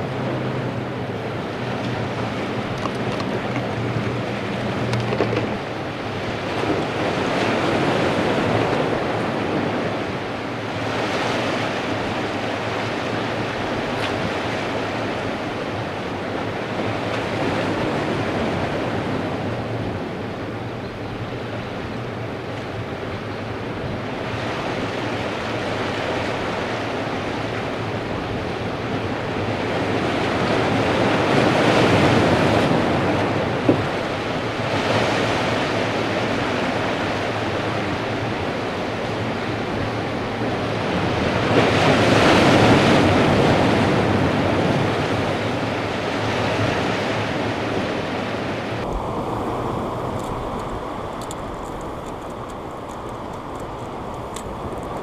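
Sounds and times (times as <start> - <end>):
surf washing against rocks: 0.0 - 20.5, 21.5 - 55.0
wind buffeting microphone: 0.0 - 55.0.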